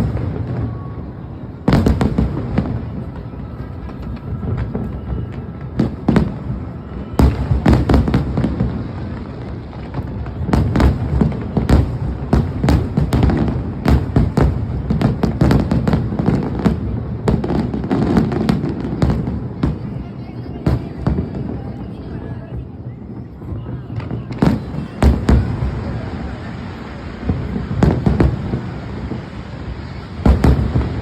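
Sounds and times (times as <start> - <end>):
fireworks bursting with crackle: 0.0 - 31.0.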